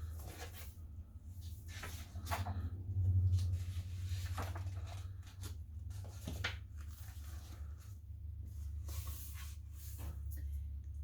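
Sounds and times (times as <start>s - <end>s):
book pages turning: 0.0s - 10.8s
low steady hum: 0.0s - 11.0s.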